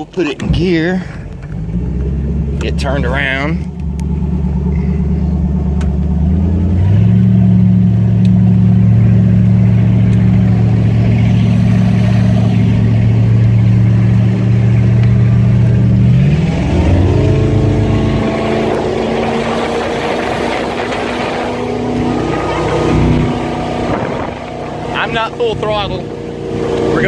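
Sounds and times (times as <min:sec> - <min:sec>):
boat engine running: 0:00.1 - 0:27.0.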